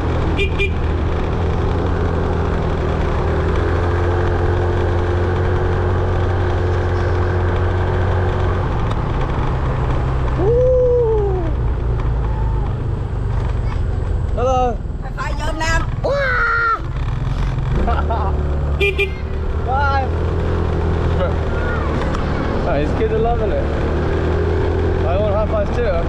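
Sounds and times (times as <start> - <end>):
motorbike engine running: 0.0 - 26.0
road noise: 0.0 - 26.0.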